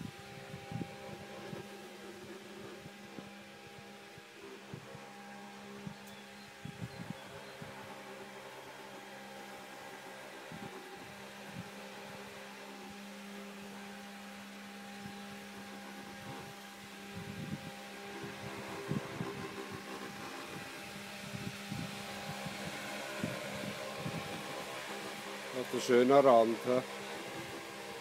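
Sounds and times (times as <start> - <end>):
robotic mower electric hum: 0.0 - 28.0.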